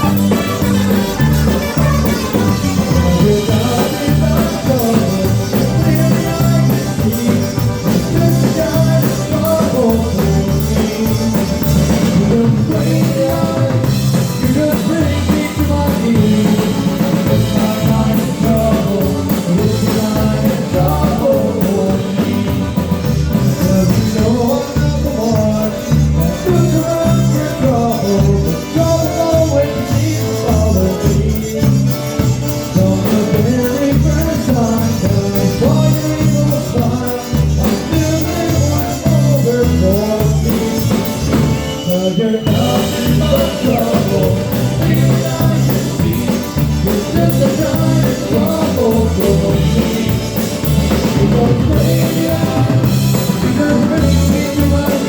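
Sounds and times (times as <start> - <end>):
bouncing bass beat: 0.0 - 55.0
drum kit: 0.0 - 55.0
polka band playing: 0.0 - 55.0.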